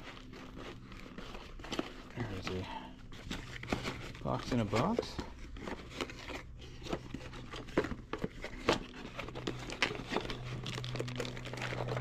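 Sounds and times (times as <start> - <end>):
cardboard box rustling: 0.0 - 12.0
plastic bags crinkling: 0.0 - 12.0.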